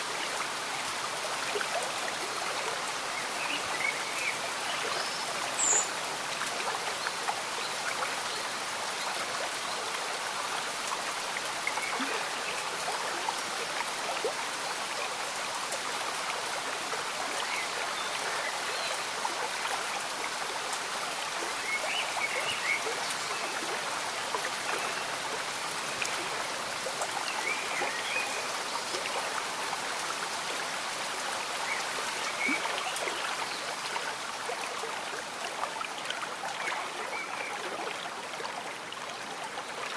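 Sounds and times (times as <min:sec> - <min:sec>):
gentle rain pattering: 0:00.0 - 0:39.9
small stream bubbling: 0:00.0 - 0:39.9.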